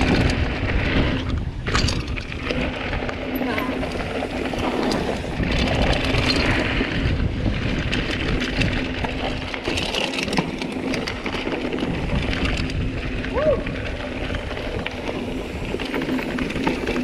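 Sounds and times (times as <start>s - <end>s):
bike clicks and rattles: 0.0s - 17.0s
bike tyres on dirt and leaves: 0.0s - 17.0s
wind rushing across microphone: 0.0s - 17.0s.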